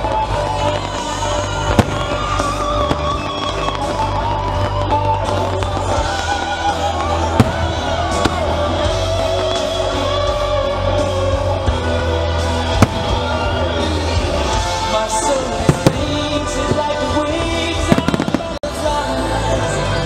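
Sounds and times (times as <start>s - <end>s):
firework bangs: 0.0s - 18.6s
loud music with singing and bass: 0.0s - 20.0s.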